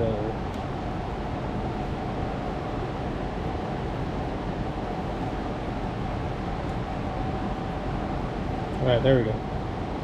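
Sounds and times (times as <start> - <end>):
faint constant whine: 0.0 - 10.0
fan hum and rushing: 0.0 - 10.0.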